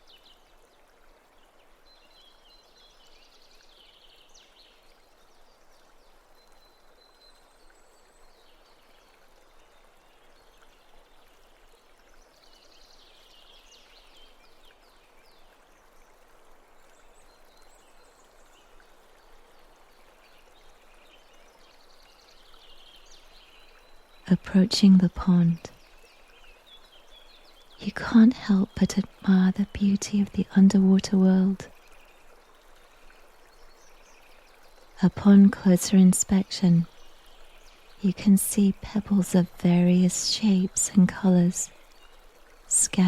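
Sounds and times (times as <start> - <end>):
faint running water: 0.0 - 43.0.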